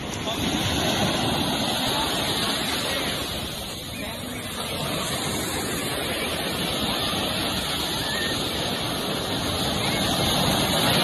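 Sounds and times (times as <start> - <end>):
ocean surf rushing: 0.0 - 11.0.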